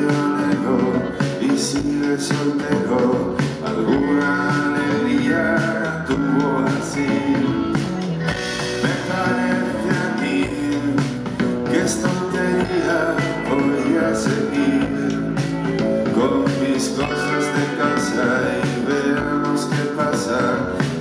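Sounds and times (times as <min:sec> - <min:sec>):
drum kit: 0:00.0 - 0:21.0
electric guitars: 0:00.0 - 0:21.0
man singing: 0:00.0 - 0:21.0.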